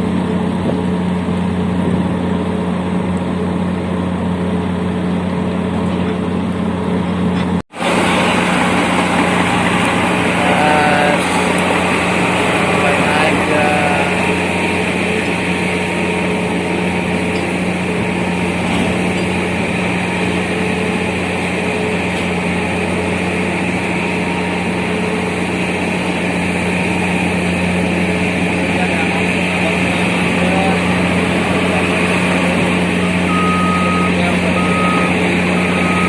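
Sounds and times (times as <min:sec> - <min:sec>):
engines and machinery droning: 0:00.0 - 0:36.0.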